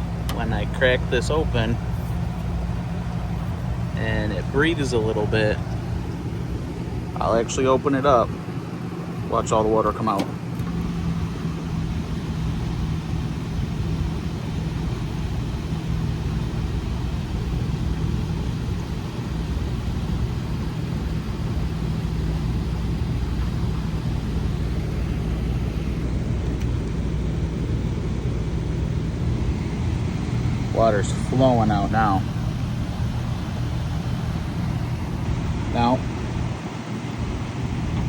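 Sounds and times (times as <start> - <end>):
gas furnace running: 0.0 - 38.0.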